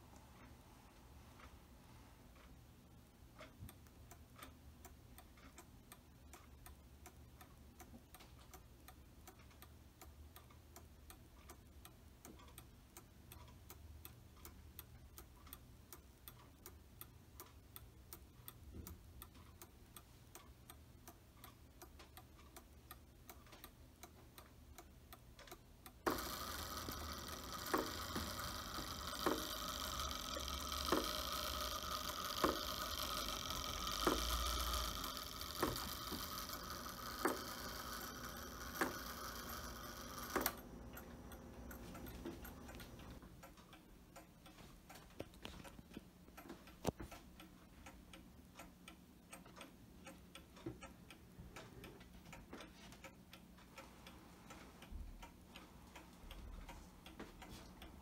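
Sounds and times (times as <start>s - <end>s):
mantel clock ticking: 0.0s - 58.0s.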